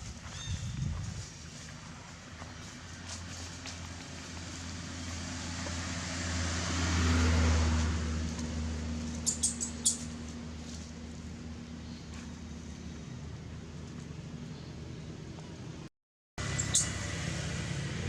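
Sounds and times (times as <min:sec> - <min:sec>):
vehicle passing: 0:01.4 - 0:14.4, 0:16.4 - 0:18.0.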